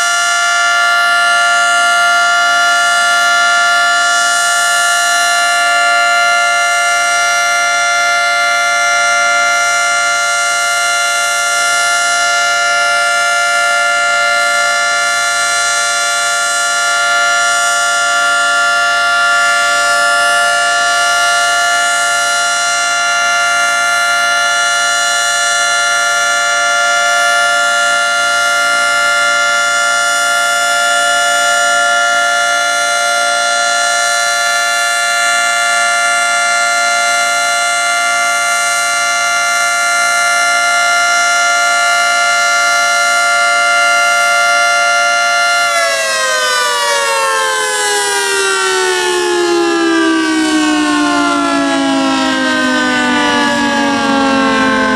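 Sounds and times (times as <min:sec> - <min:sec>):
warning siren held chord: 0:00.0 - 0:54.9.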